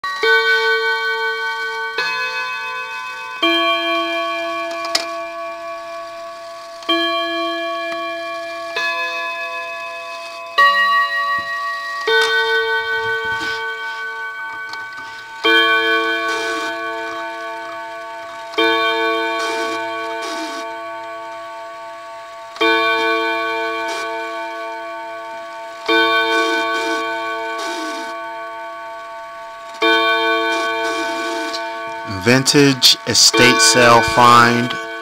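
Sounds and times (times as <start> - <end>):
mantel clock chiming: 0.1 - 35.0.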